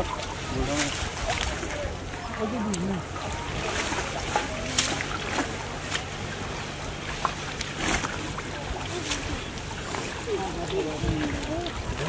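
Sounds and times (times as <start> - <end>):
faint voices: 0.0 - 12.0
water splashing and sloshing: 0.0 - 12.0.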